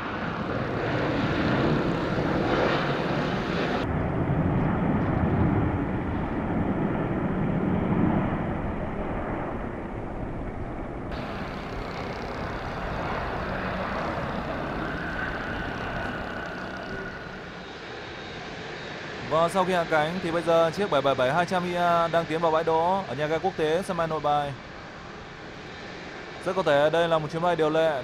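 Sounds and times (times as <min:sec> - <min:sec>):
jet engines of landing airliner: 0:00.0 - 0:28.0.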